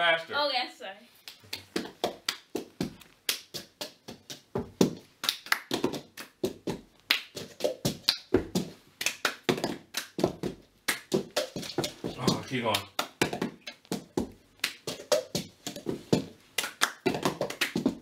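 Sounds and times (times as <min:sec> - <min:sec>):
hand claps: 0:01.2 - 0:18.0.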